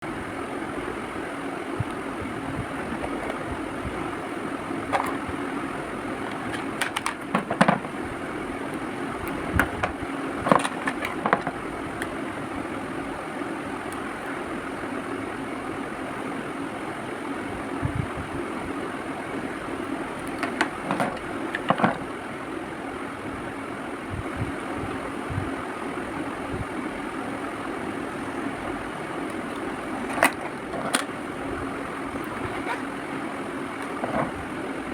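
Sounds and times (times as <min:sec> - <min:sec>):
background hum and hiss: 0:00.0 - 0:34.9.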